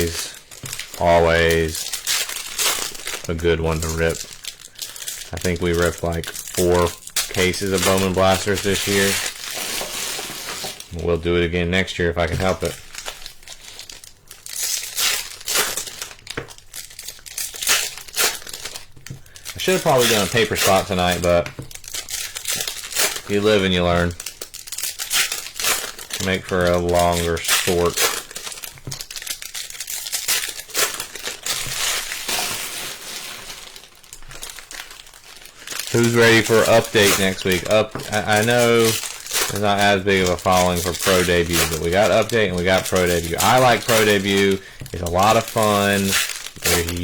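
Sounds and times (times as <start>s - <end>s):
card pack wrappers crinkling and tearing: 0.0s - 47.0s.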